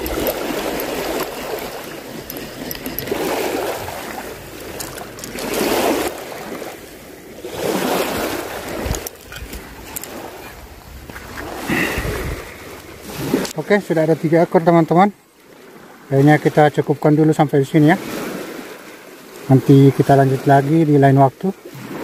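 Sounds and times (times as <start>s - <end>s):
small waves washing onto shore: 0.0s - 22.0s.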